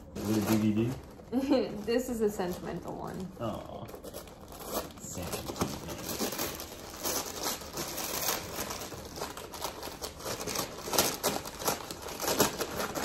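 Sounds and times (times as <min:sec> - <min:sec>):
paper tearing and crumpling: 0:00.1 - 0:13.0.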